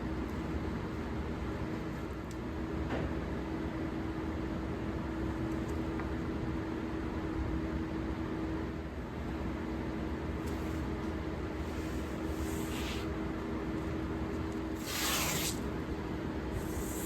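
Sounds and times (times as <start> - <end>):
mechanical hum with hiss: 0.0 - 17.0.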